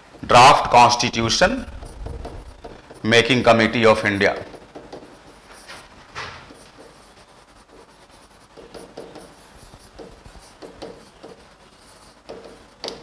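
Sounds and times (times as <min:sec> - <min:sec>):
writing strokes on glass touchscreen: 0:01.7 - 0:13.0.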